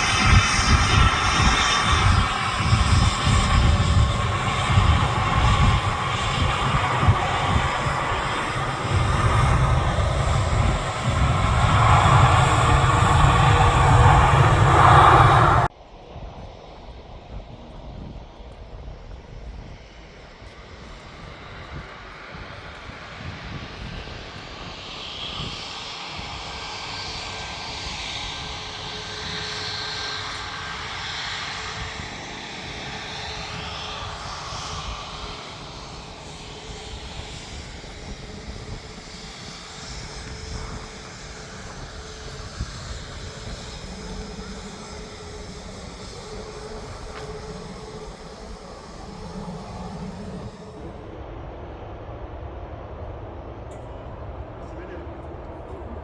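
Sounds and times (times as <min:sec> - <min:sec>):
jet engine rumble with whine: 0:00.0 - 0:56.0.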